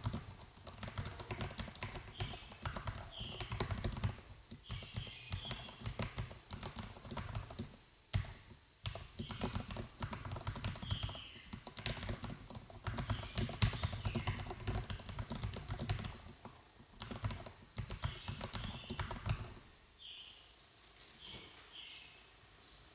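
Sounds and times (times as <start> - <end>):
fast mechanical keyboard typing: 0.0 - 16.3, 16.9 - 19.6.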